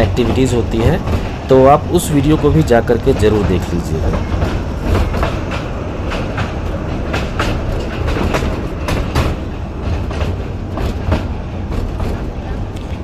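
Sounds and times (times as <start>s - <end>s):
train rolling rumble: 0.0s - 13.0s
wheels clicking over rail joints: 0.0s - 13.0s.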